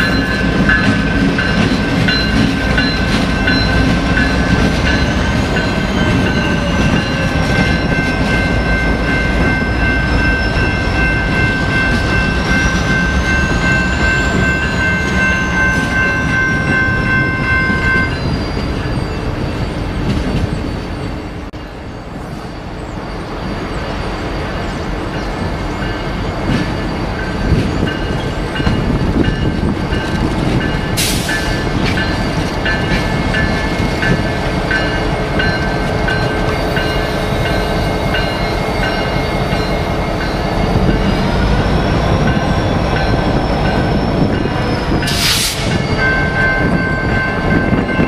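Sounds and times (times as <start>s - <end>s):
diesel locomotives rumbling: 0.0s - 48.0s.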